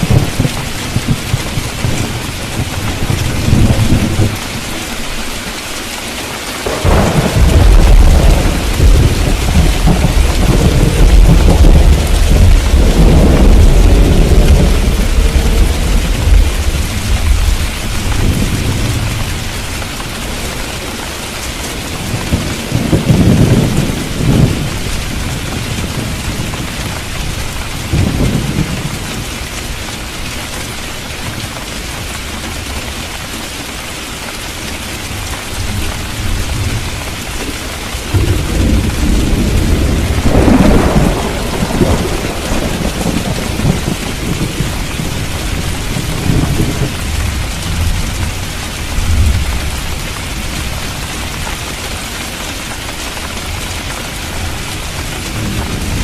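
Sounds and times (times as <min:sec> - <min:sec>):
thunder rumbling: 0:00.0 - 0:05.2, 0:06.6 - 0:30.1, 0:35.1 - 0:56.0
heavy rain hissing: 0:00.0 - 0:56.0.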